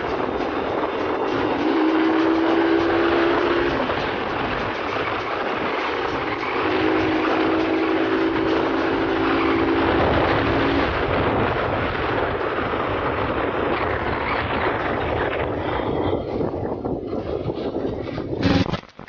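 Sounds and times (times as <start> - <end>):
wind rush: 0.0 - 18.8.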